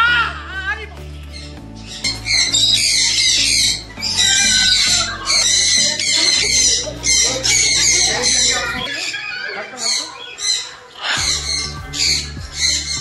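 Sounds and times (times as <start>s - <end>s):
background music with low notes: 0.0s - 13.0s
parrots screeching: 1.3s - 13.0s.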